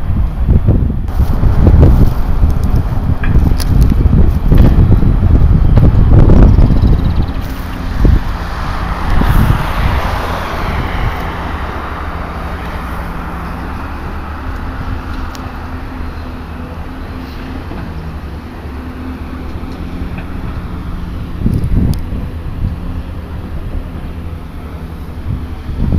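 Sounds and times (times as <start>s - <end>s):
excavator diesel engine running: 0.0s - 25.9s
car passing with tyre noise: 1.0s - 25.9s.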